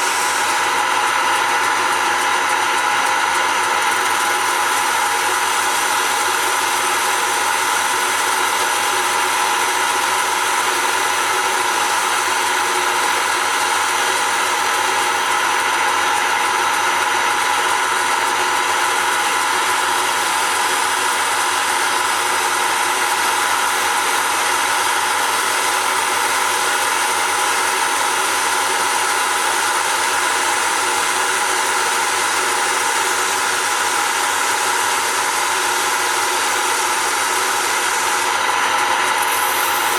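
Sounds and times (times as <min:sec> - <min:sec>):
tool cutting spinning wood: 0:00.0 - 0:39.9
wood lathe running: 0:00.0 - 0:39.9.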